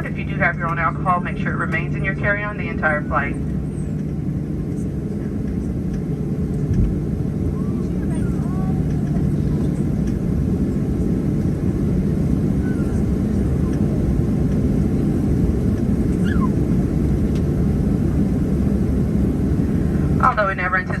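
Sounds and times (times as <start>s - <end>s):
airplane cabin rumble: 0.0s - 21.0s.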